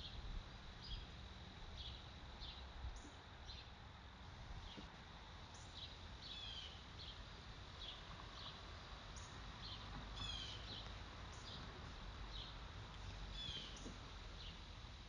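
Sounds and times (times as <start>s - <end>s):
faint birds chirping: 0.8s - 3.8s, 4.6s - 14.8s.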